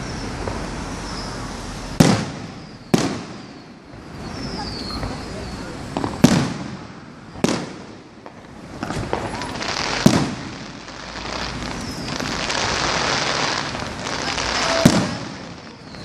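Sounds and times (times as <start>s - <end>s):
firework bangs: 0.0s - 16.0s
firework crackle: 0.0s - 16.0s.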